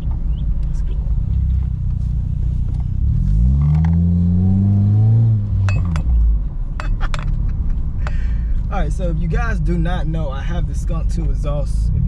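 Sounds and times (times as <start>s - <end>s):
car exhaust accelerating: 0.0s - 12.0s.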